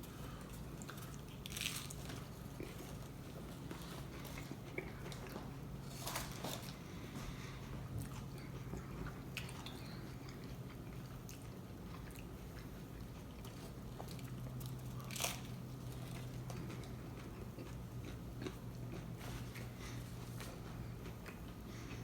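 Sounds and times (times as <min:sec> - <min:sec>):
low steady hum: 0:00.0 - 0:22.0
person chewing and crunching food: 0:00.0 - 0:22.0.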